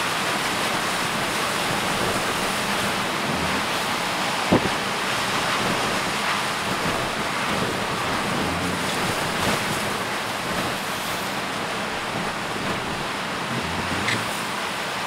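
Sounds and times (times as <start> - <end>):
heavy surf: 0.0 - 15.0
wind buffeting microphone: 0.5 - 14.8
storm wind blowing: 0.7 - 14.9.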